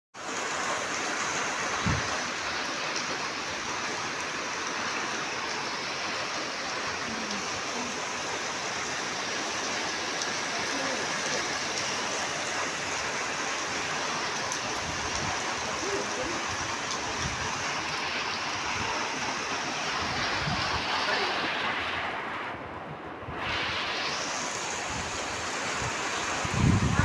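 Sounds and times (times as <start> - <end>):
heavy rain falling: 0.2 - 27.0.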